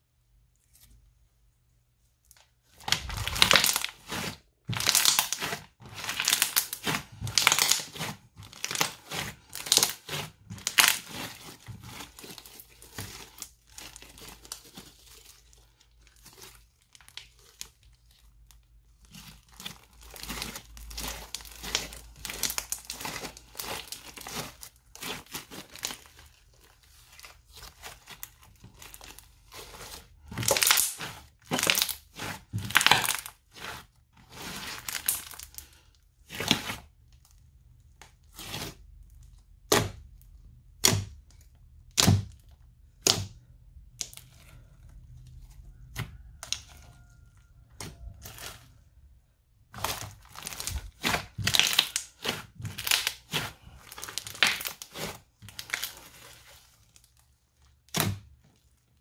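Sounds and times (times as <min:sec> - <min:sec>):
slime crackling and crunching: 0:02.2 - 0:59.0.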